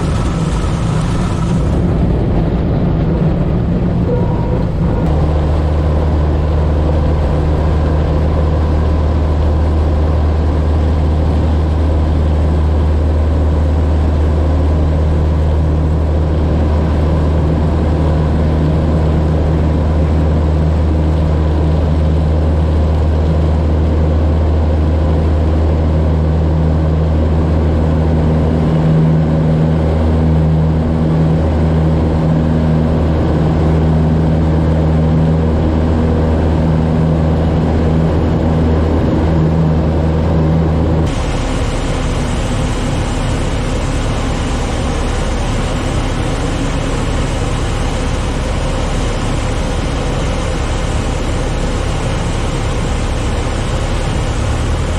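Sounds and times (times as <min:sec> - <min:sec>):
propeller engine humming: 0:00.0 - 0:54.9
wind rushing over airframe: 0:00.0 - 0:54.9.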